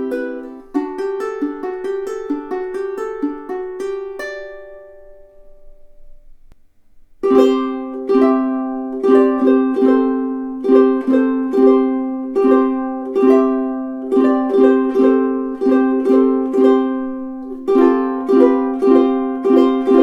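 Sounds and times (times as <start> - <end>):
ukulele strummed chords: 0.0 - 20.0.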